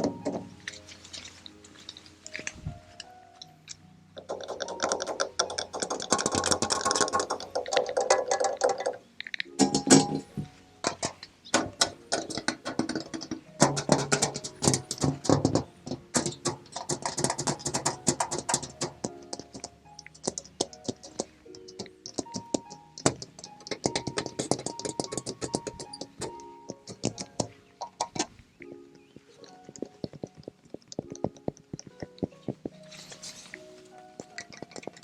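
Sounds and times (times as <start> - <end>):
fingernail tapping on metal: 0.0 - 0.8, 4.2 - 28.7, 29.4 - 32.8, 34.1 - 35.0.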